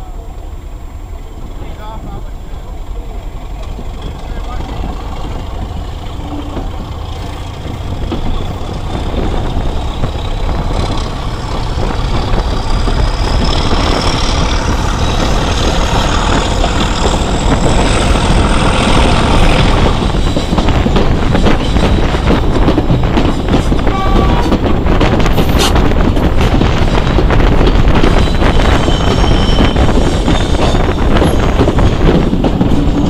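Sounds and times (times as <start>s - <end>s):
coaches rumbling on rails: 0.0s - 33.0s
diesel locomotive accelerating: 0.0s - 33.0s.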